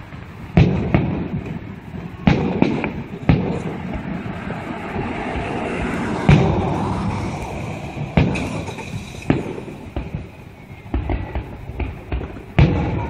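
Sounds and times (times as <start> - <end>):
faint fireworks bangs: 0.0 - 13.0
fireworks booming with echo: 0.0 - 13.0.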